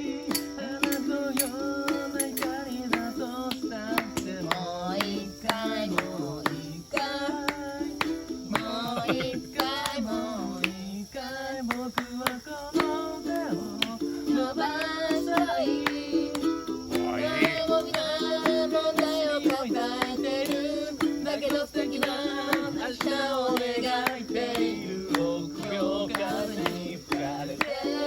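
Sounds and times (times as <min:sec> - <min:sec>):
person singing: 0:00.0 - 0:28.0
ukulele strumming: 0:00.0 - 0:28.0.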